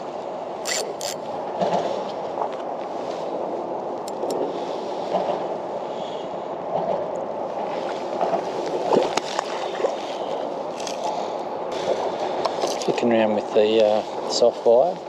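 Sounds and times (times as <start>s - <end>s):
water lapping against kayak hull: 0.0s - 13.1s.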